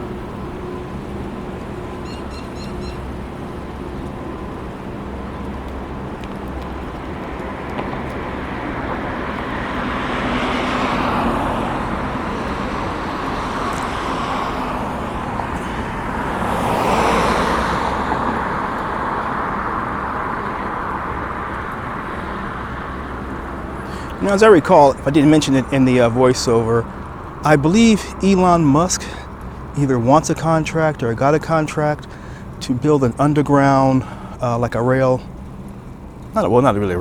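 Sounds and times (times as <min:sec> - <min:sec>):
cars passing by: 0:00.0 - 0:37.0
road traffic hum: 0:00.0 - 0:37.0.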